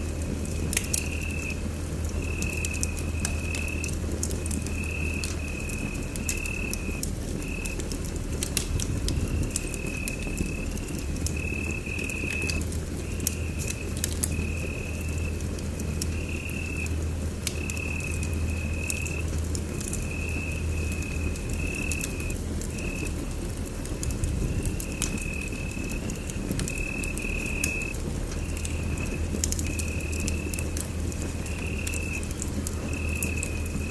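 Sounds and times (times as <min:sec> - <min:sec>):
low fire rumble: 0:00.0 - 0:33.9
wood fire crackling and popping: 0:00.0 - 0:33.9.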